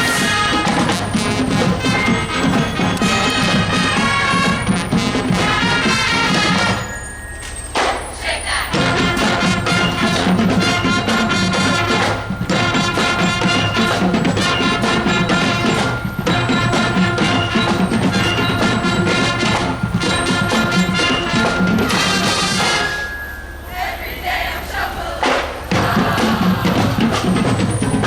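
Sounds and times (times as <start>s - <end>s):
steady drum beat: 0.0s - 6.9s, 8.7s - 22.9s, 25.2s - 28.0s
marching band playing: 0.0s - 28.0s.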